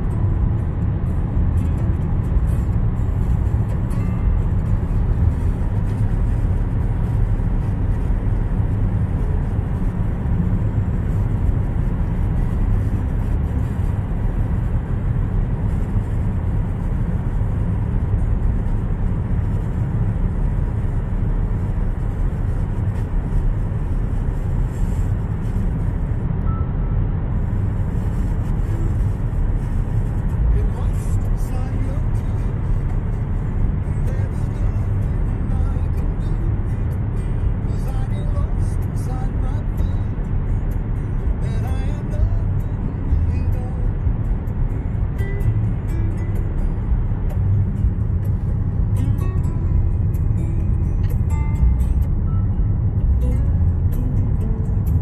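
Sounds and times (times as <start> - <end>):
car road noise drone: 0.0 - 55.0.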